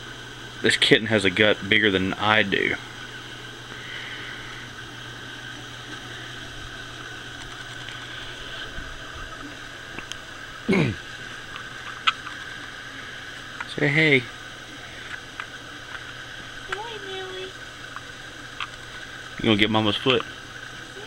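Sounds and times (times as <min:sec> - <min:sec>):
room hum and hiss: 0:00.0 - 0:21.0.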